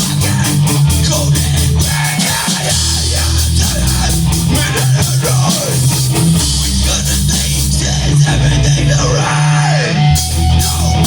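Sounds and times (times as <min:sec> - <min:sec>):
distorted electric guitar: 0:00.0 - 0:11.0
rock band playing: 0:00.0 - 0:11.0.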